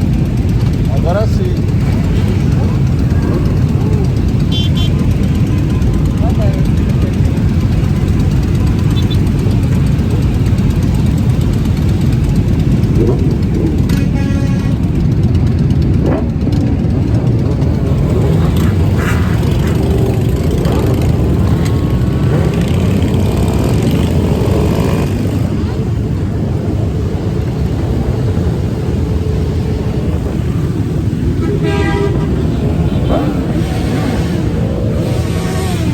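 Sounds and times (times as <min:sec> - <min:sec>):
motorcycle engines droning: 0:00.0 - 0:35.9
road noise: 0:00.0 - 0:35.9.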